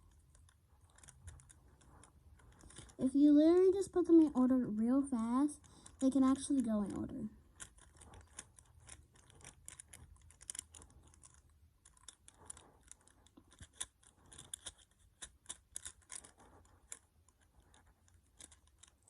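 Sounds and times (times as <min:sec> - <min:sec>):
plastic puzzle cube clicking: 0:00.0 - 0:03.0, 0:05.6 - 0:19.0.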